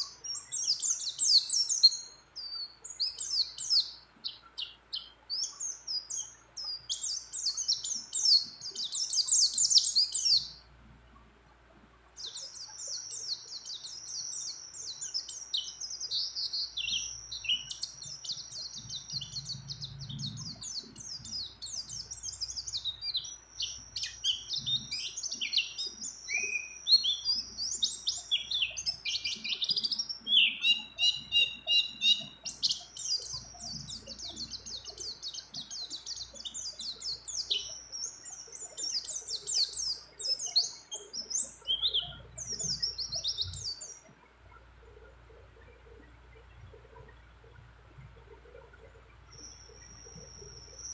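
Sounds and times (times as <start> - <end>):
bird twittering song: 0.0 - 11.2, 12.1 - 50.9.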